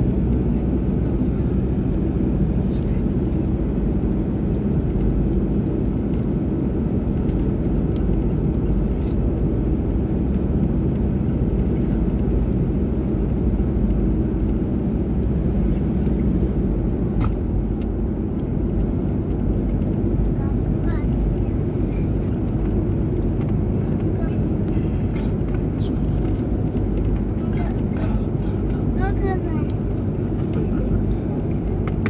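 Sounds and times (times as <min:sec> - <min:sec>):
car driving low rumble: 0:00.0 - 0:32.0.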